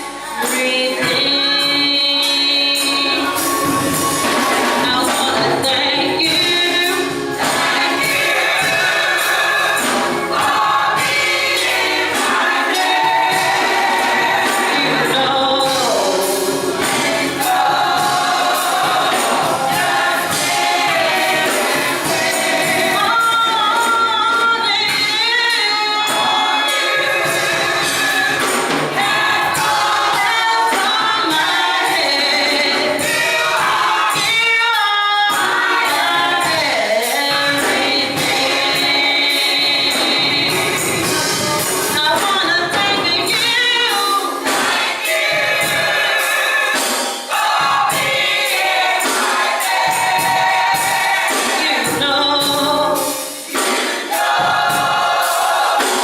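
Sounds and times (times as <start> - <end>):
gospel choir singing: 0.0 - 56.0
rhythmic percussion beat: 0.0 - 56.0.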